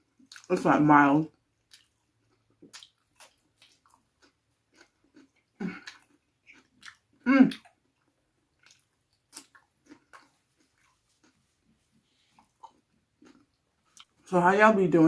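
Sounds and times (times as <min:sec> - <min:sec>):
close chewing mouth sounds: 0:00.1 - 0:00.5, 0:01.3 - 0:14.3.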